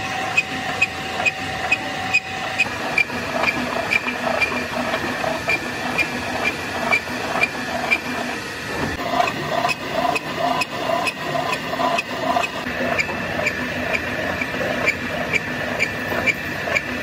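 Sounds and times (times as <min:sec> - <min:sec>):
lathe cutting steel: 0:00.0 - 0:17.0.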